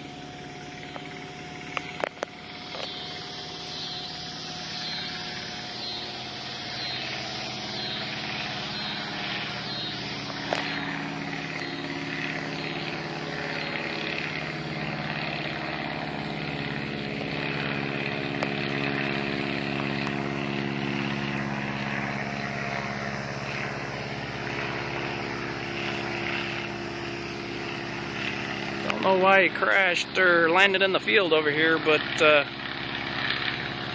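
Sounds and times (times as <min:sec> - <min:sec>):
propeller plane engine droning: 0:00.0 - 0:33.9.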